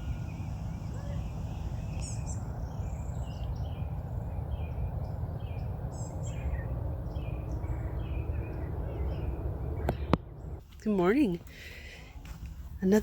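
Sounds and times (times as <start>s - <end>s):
birds chirping and calling: 0.0s - 10.6s
steady low rumble: 0.0s - 13.0s.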